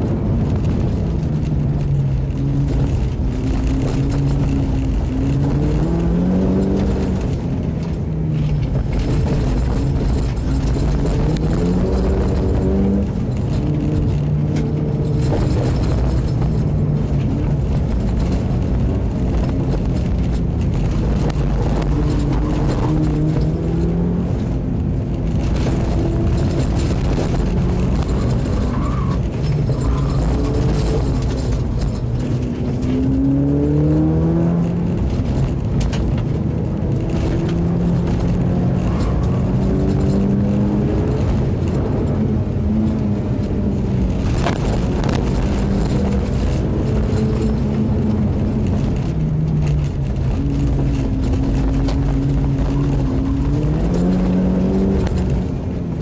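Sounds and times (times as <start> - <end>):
car engine revving: 0.0 - 56.0
tyres rumbling on gravel: 0.0 - 56.0.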